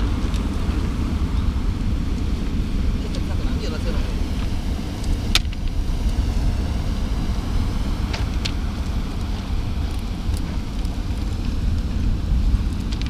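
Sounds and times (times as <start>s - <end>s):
wind and surf rumbling: 0.0s - 13.0s.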